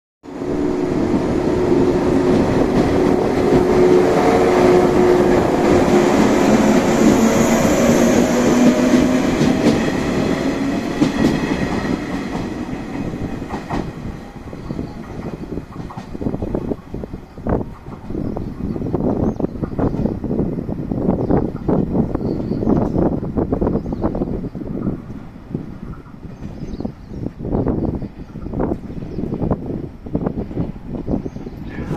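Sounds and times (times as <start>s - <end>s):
electric train running past: 0.3s - 31.9s.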